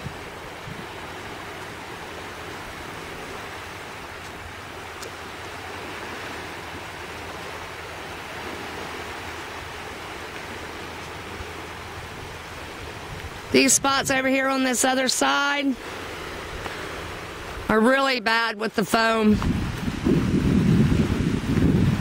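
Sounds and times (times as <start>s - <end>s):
surf on a beach: 0.0s - 22.0s
wind: 0.0s - 22.0s.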